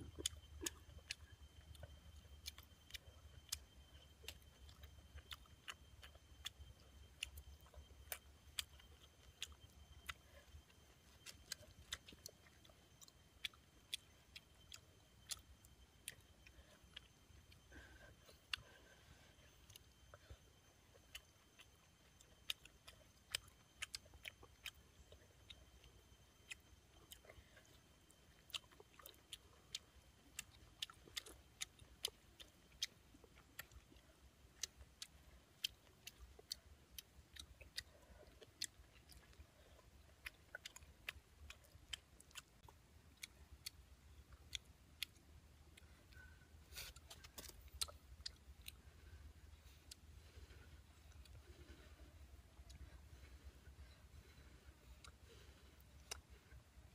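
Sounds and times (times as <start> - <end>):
person chewing with mouth clicks: 0.0 - 56.9.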